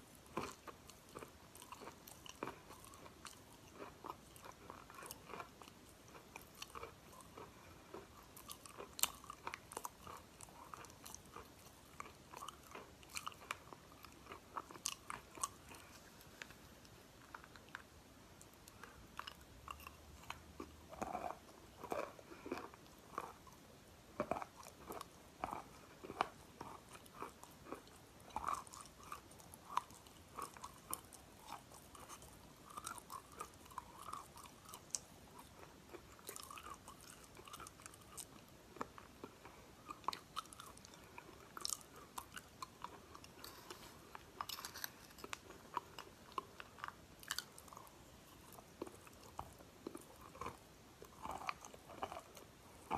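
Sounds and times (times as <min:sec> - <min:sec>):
person chewing crunchy chalk: 0:00.2 - 0:17.9, 0:24.2 - 0:52.9.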